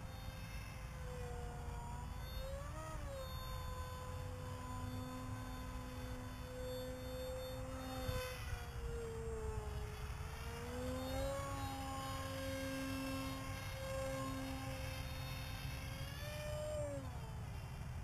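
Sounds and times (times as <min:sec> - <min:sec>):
model jet motor whine: 0:00.0 - 0:18.0.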